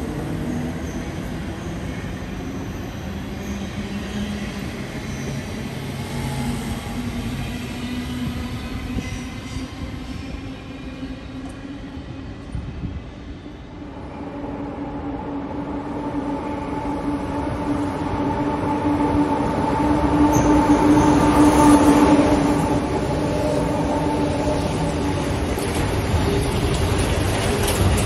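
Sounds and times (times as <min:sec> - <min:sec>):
electric locomotive hum: 0:00.0 - 0:28.0
rumble of rolling train wagons: 0:00.0 - 0:28.0.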